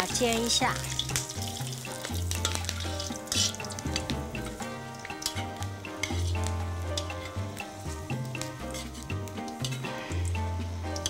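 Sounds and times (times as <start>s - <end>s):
ginger sizzling in hot oil: 0.0s - 11.0s
metal spatula scraping a pan: 0.1s - 11.0s.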